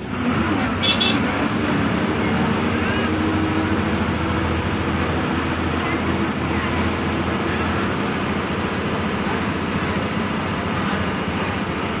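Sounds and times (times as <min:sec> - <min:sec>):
bus engine hum and road noise: 0:00.0 - 0:12.0.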